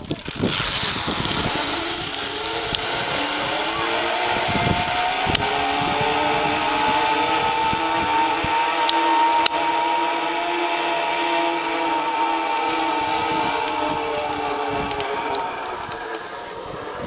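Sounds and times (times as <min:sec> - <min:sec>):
zip line trolley whine: 0:00.0 - 0:17.0.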